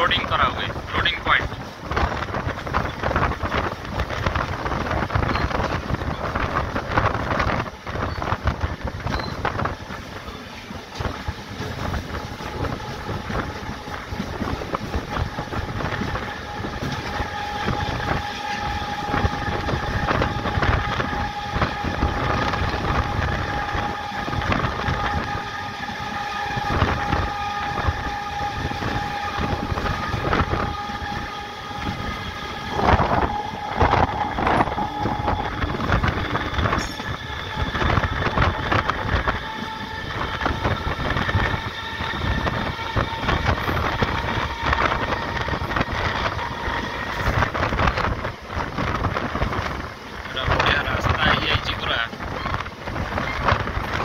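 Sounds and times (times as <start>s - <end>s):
train motor whine: 0.0s - 54.0s
train wheels clacking over rails: 0.0s - 54.0s.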